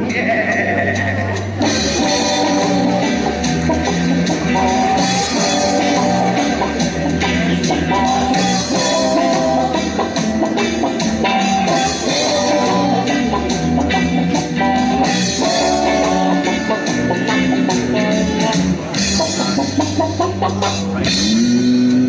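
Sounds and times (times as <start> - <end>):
rock music over a loudspeaker: 0.0 - 22.0.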